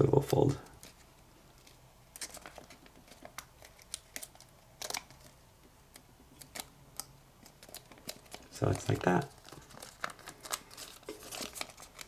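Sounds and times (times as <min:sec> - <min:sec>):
paper crinkling: 0:00.6 - 0:05.4, 0:06.4 - 0:12.0.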